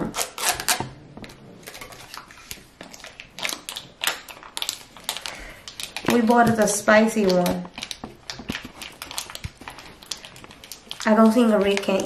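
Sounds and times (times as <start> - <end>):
plastic packet crinkling: 1.6 - 12.0.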